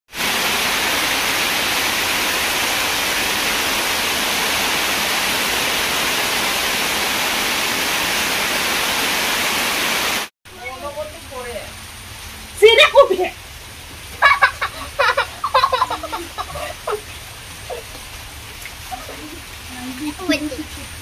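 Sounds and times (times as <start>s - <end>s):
heavy rain pouring: 0.1s - 21.0s.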